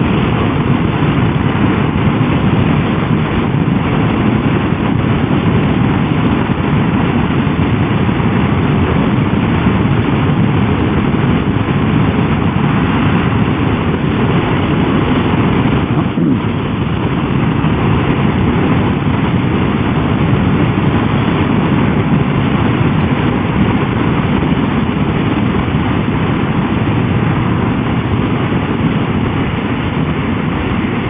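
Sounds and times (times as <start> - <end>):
motorcycle engine and tyres: 0.0 - 31.0
wind rush while riding: 0.0 - 31.0.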